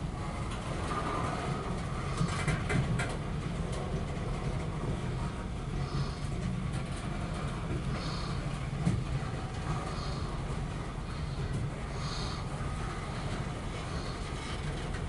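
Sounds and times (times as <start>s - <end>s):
train clicks and rattles: 0.0s - 15.0s
train rumbling on rails: 0.0s - 15.0s.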